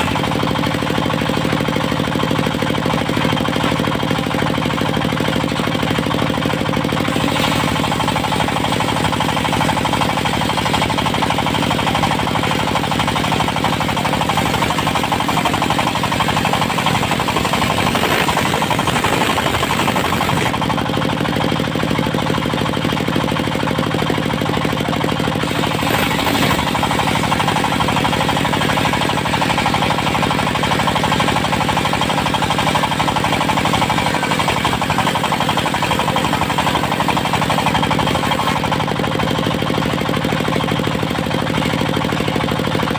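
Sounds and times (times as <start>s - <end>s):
saw mill engine pulsing: 0.0s - 42.9s.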